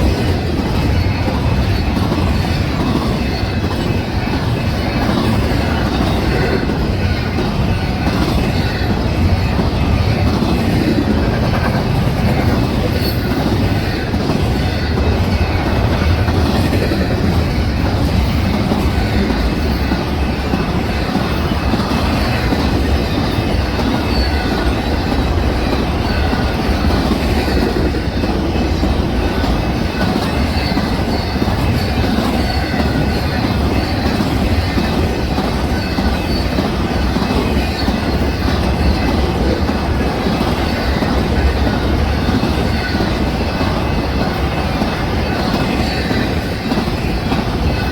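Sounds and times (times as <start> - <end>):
rumble of steel wheels on rail: 0.0 - 47.9.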